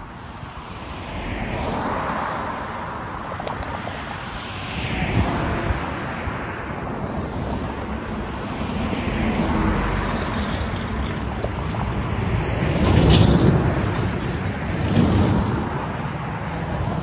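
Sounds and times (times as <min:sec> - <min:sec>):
cars driving past: 0:00.5 - 0:17.0.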